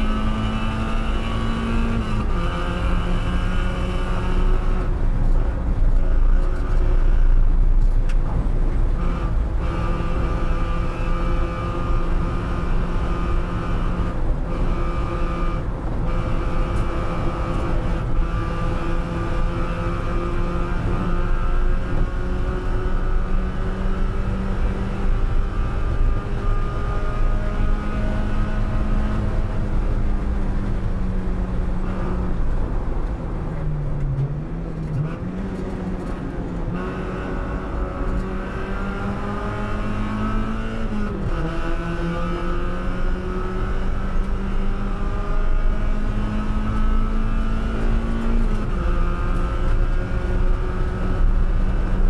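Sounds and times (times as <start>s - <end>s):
racing car engine: 0.0s - 52.0s.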